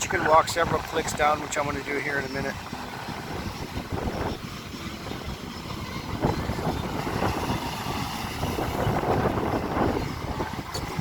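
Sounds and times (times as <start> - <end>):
surf breaking over rocks: 0.0 - 11.0
wind rumbling on microphone: 0.0 - 11.0.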